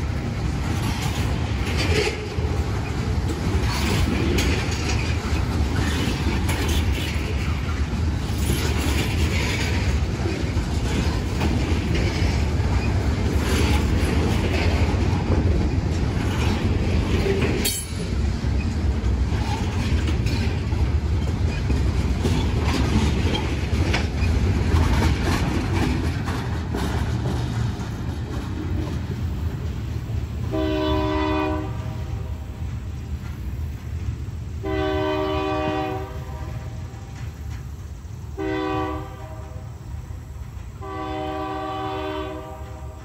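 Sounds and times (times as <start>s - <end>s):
clickety-clack over rail joints: 0.0s - 43.0s
steel wheels rumbling on rail: 0.0s - 43.0s.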